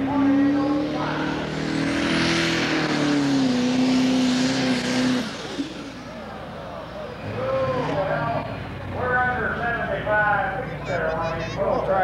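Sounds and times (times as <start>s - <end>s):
diesel engine at full load: 0.0s - 12.0s.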